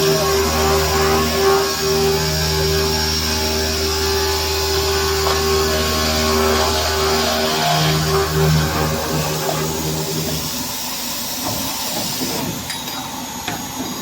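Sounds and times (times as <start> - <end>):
circular saw cutting metal tube: 0.0 - 13.0.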